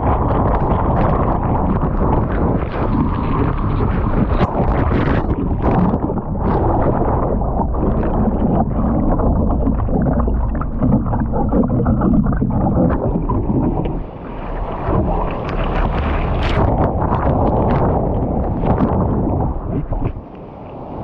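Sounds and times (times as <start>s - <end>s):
choppy surf splashing: 0.0s - 21.0s
wind buffeting microphone: 0.0s - 21.0s.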